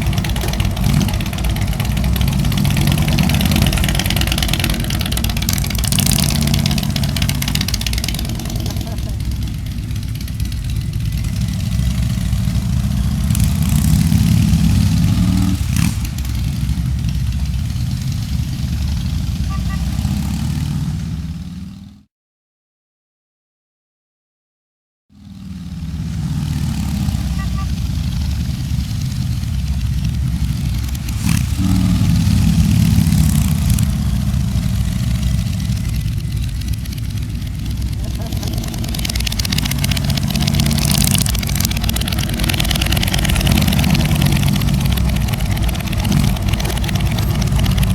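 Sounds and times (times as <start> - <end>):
motorcycle engines running: 0.0 - 22.1, 25.2 - 47.9.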